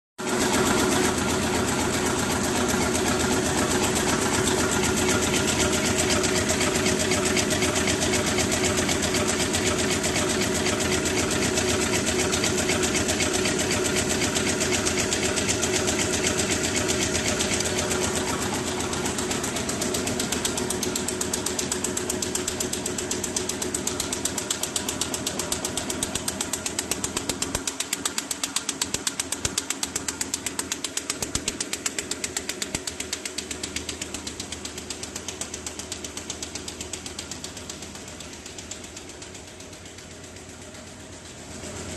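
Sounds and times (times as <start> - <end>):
machine mechanical clatter: 0.3 - 41.9
steady machine hum: 0.3 - 41.9.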